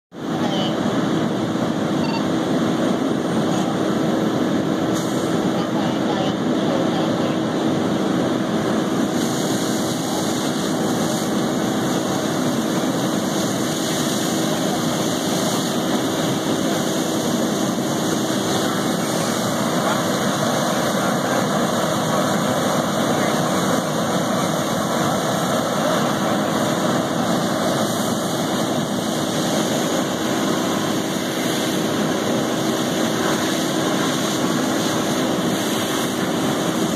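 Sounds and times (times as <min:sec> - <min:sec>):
diesel engine droning: 0:00.2 - 0:36.9.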